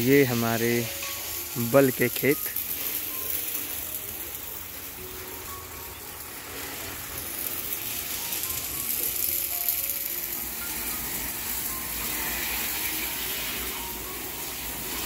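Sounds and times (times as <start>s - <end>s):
background music: 0.0s - 15.0s
pressure washer jet hissing: 0.0s - 15.0s.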